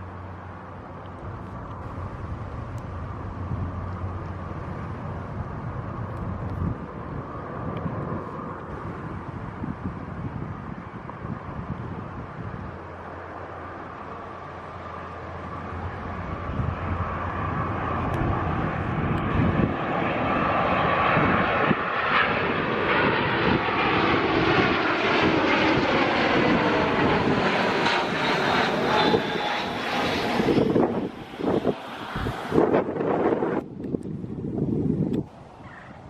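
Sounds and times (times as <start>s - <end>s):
jet airliner passing overhead: 0.0s - 36.0s.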